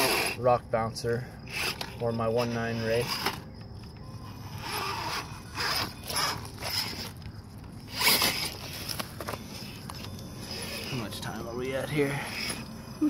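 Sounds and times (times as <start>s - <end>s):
electric motor and gears whirring: 0.0s - 13.0s.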